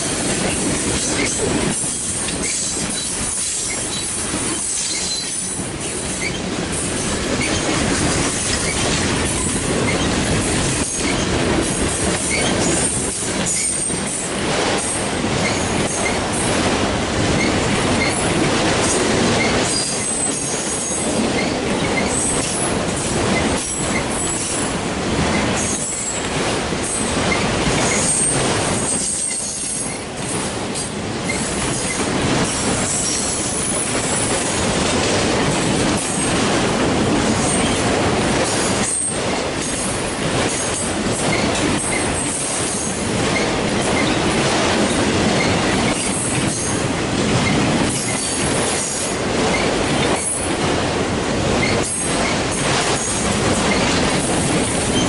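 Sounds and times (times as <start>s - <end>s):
train cars clattering over rails: 0.0s - 55.0s.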